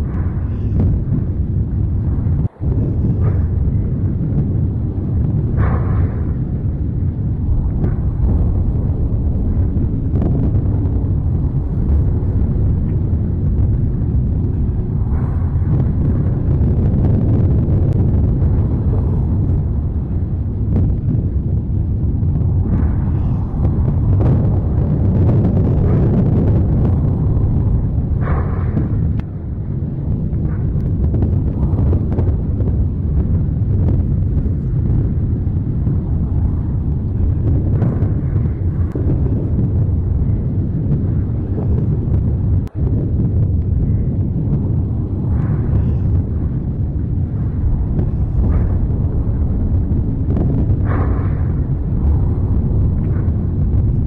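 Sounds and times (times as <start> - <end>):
faint crackles: 0.0 - 54.0
volcano low rumble: 0.0 - 54.0.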